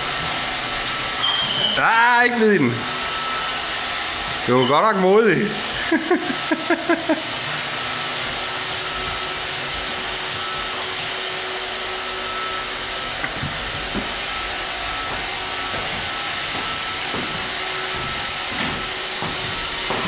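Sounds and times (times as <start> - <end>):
robot vacuum running: 0.0 - 20.0.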